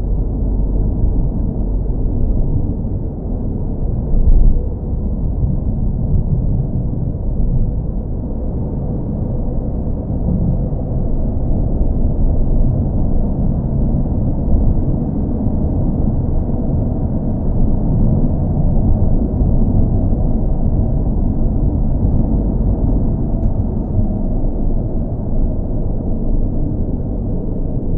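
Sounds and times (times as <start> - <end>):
deep car engine and road drone: 0.0 - 27.9.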